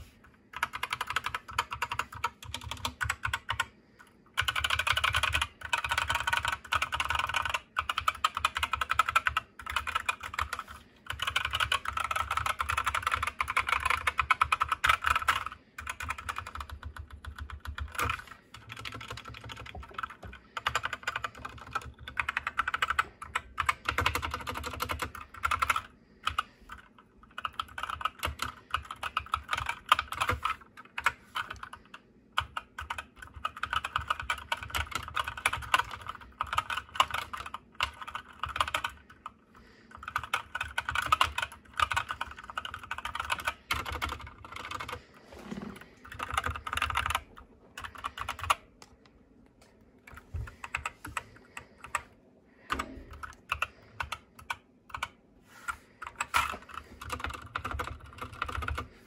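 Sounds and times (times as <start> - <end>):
mechanical keyboard typing: 0.5 - 48.8, 50.0 - 55.2, 56.0 - 58.9.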